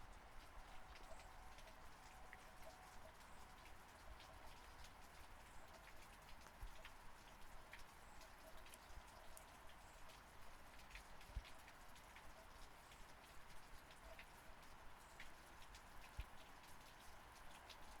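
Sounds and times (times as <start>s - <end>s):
faint rain with ticking drops: 0.0s - 18.0s.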